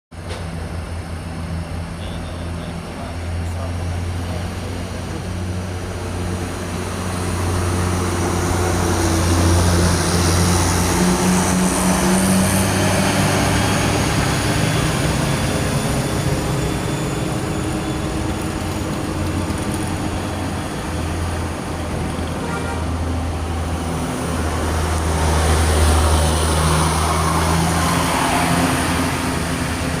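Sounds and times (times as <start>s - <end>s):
bus diesel engines under load: 0.1s - 30.0s.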